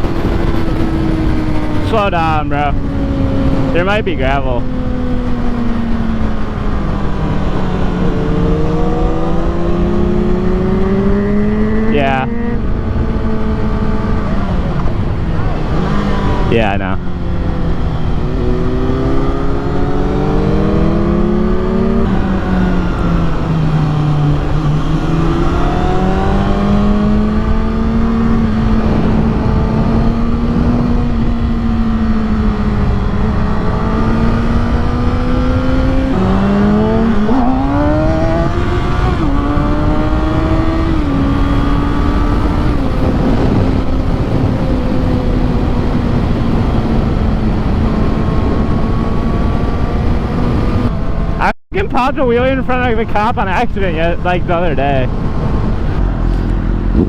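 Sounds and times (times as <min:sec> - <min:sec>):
motorcycle engine revving: 0:00.0 - 0:57.0
wind rushing: 0:00.0 - 0:57.0.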